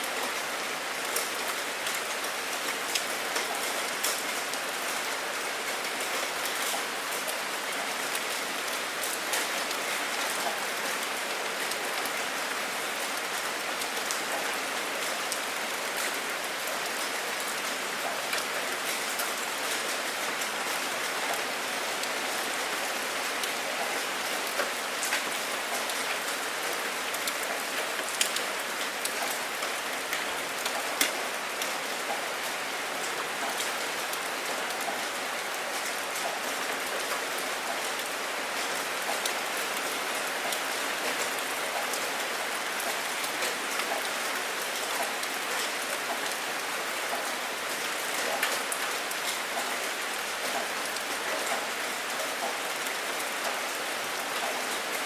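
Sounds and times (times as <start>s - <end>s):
raindrops ticking on a surface: 0.0s - 55.0s
steady rain hissing: 0.0s - 55.0s.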